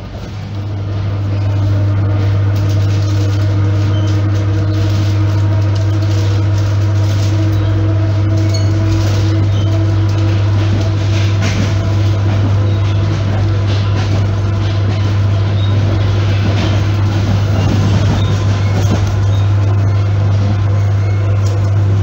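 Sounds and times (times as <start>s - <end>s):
low electrical hum: 0.0s - 22.0s
train carriage running noise: 0.0s - 22.0s.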